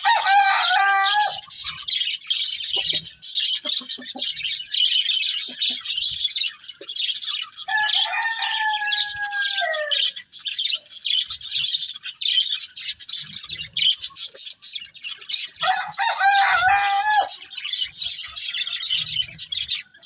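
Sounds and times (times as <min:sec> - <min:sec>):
budgerigars chirping and chattering: 0:00.0 - 0:20.0.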